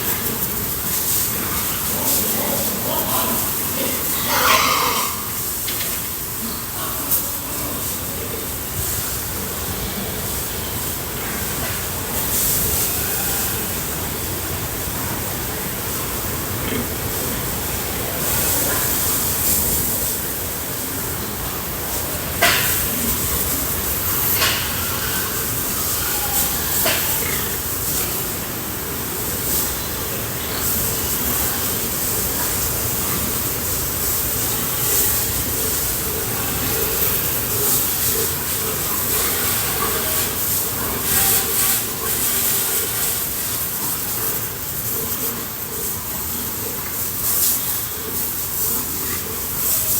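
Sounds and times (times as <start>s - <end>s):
water spray hissing: 0.0s - 49.9s.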